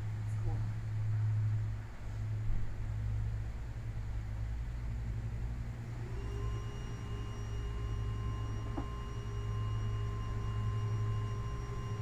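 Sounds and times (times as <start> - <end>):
faint whining tones: 0.0 - 12.0
low motor hum: 0.0 - 12.0.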